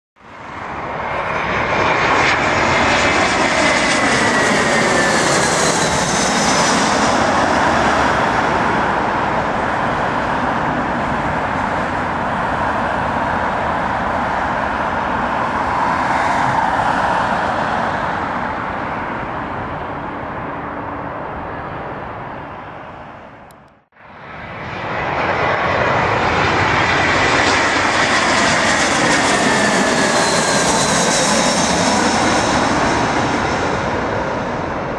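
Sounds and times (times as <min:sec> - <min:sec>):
falling jet engine whine: 0:00.2 - 0:34.9
jet airliner passing low: 0:00.2 - 0:34.9.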